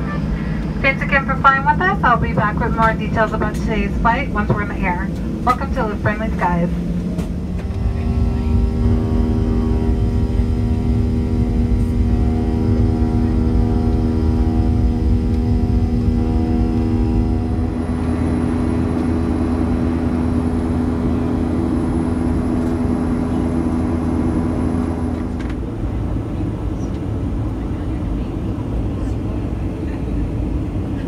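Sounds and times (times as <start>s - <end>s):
jet engine drone in cabin: 0.0s - 31.0s
steady engine tones: 0.0s - 31.0s.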